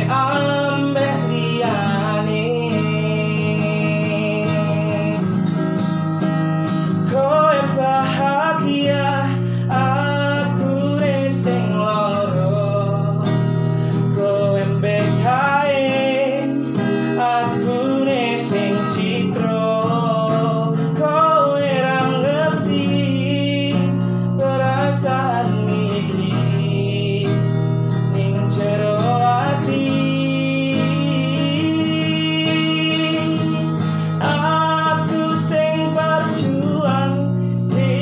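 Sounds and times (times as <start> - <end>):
man singing: 0.0 - 5.8, 6.9 - 38.0
acoustic guitar chords: 0.0 - 38.0.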